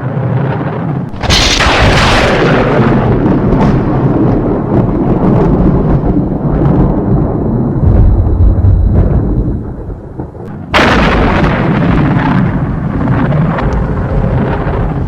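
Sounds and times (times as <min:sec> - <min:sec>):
rolling thunder rumble: 0:00.0 - 0:15.0
lightning strike crack: 0:00.4 - 0:15.0.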